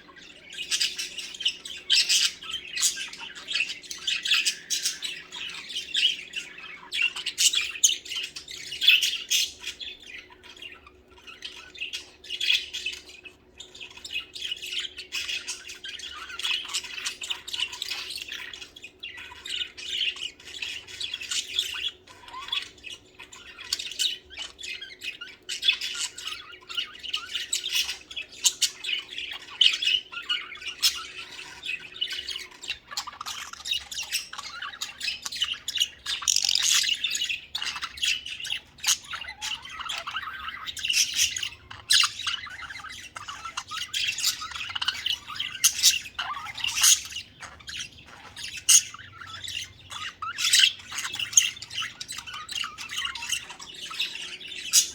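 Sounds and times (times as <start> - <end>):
budgerigars chattering and warbling: 0.0 - 54.9.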